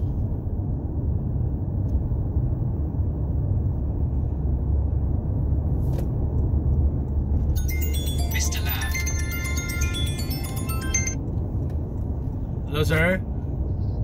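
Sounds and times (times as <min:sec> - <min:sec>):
car cabin engine and tyre noise: 0:00.0 - 0:14.0.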